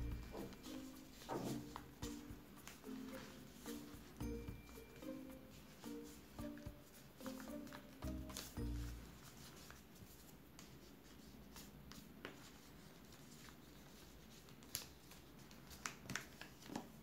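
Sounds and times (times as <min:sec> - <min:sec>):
paper being handled and creased: 0:00.1 - 0:04.0, 0:05.6 - 0:17.0.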